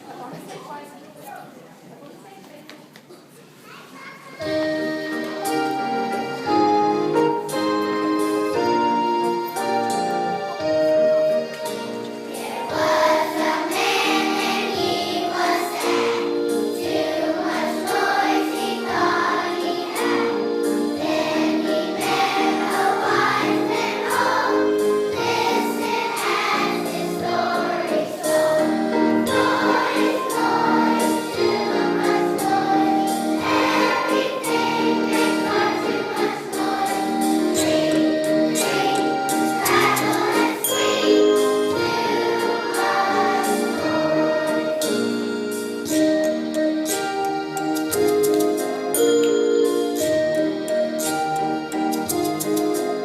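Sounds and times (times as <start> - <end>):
children's choir singing: 4.3 - 53.0
instrumental accompaniment: 4.4 - 53.0.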